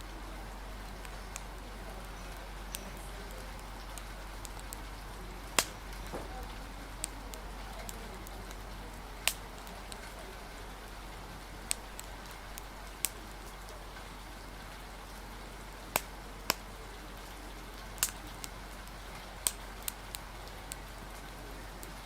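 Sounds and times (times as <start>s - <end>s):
rain hiss: 0.0s - 22.0s
wood fire pops and crackles: 0.0s - 22.0s.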